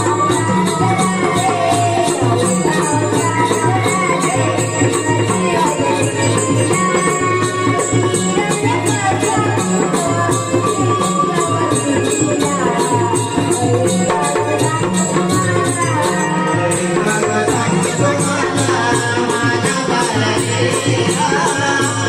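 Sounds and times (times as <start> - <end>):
hand cymbals beat: 0.0 - 22.0
hand drum: 0.0 - 22.0.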